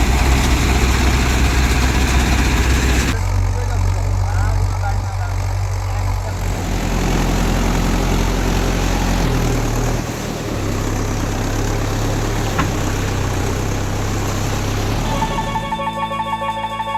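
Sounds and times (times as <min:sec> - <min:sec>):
heavy engine running: 0:00.0 - 0:16.9.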